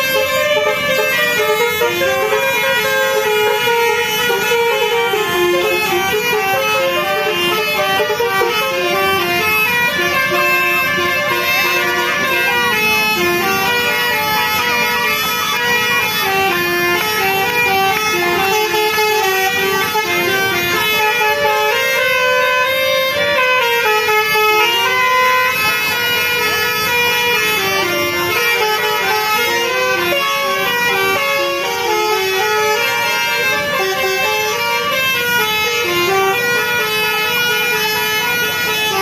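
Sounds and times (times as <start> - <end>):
musical air horn tune: 0.0 - 39.0.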